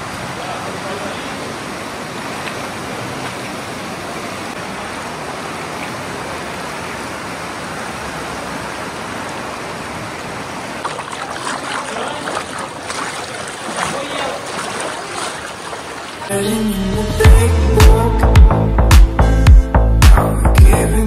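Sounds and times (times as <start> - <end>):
flowing water rushing: 0.0 - 16.9.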